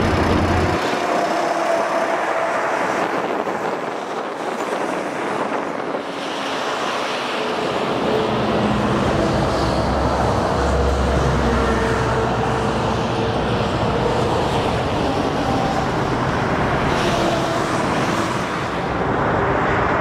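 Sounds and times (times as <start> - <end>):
highway traffic: 0.0 - 20.0
wind on microphone: 0.0 - 20.0.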